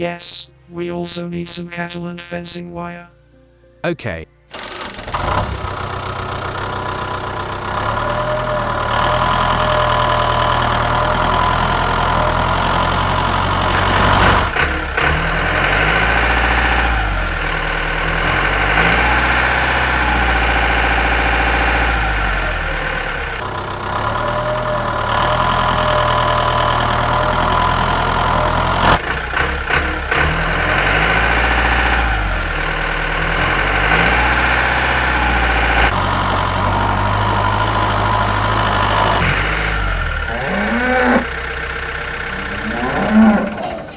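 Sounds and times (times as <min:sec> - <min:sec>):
small engine running: 0:04.5 - 0:43.9.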